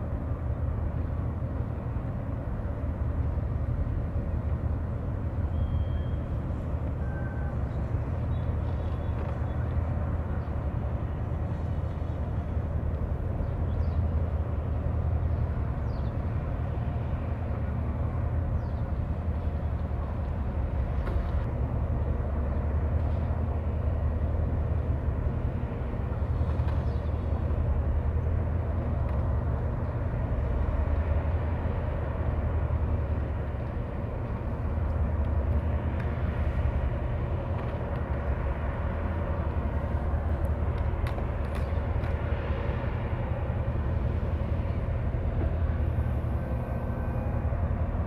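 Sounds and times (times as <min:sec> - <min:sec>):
ship engines low rumble: 0:00.0 - 0:48.0.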